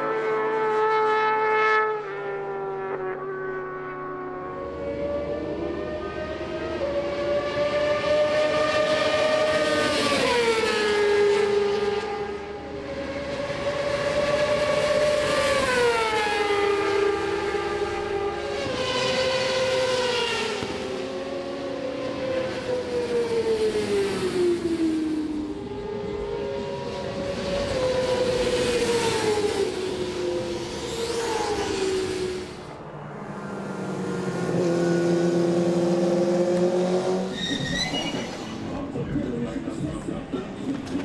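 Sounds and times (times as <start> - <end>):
racing motorcycles at high revs: 4.4 - 32.7, 33.8 - 41.0.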